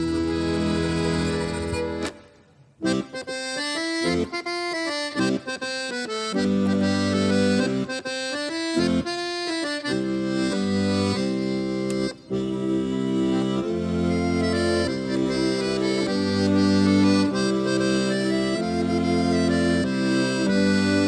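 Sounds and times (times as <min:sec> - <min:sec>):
folk band playing instrumental: 0:00.0 - 0:21.0.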